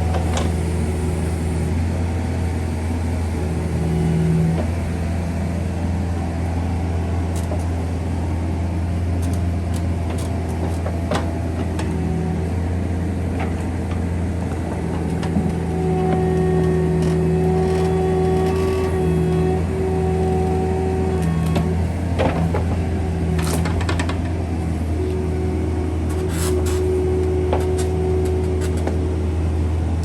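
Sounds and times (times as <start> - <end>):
diesel engine running: 0.0 - 30.0
steady whine: 0.0 - 30.0.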